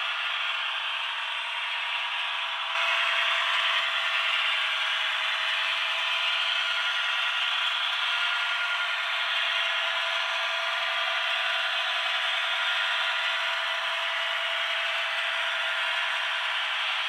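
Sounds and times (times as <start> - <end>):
model train rolling on track: 0.0 - 17.0.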